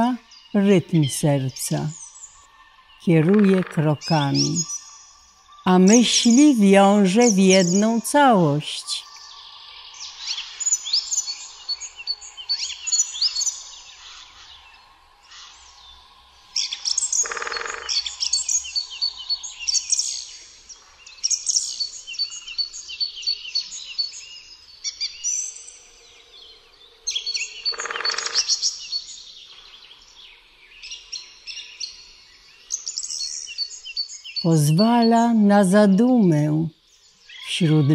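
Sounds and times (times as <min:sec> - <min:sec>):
songbirds singing trills: 0:00.0 - 0:37.9.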